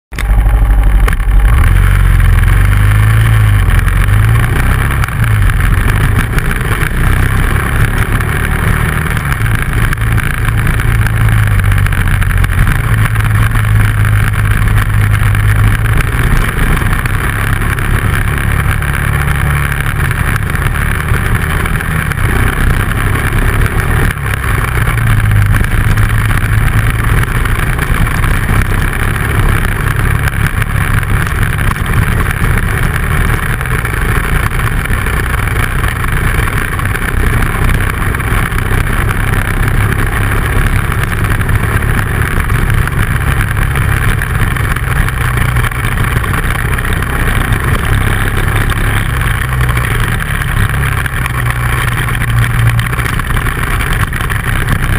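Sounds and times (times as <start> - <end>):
motorcycle engine running: 0.1 - 54.9
riding noise rush: 0.1 - 54.9.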